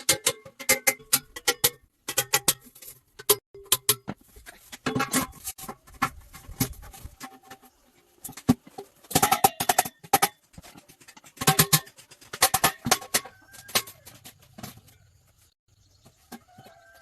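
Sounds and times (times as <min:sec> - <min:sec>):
metal clinking and knocking: 0:00.0 - 0:15.0.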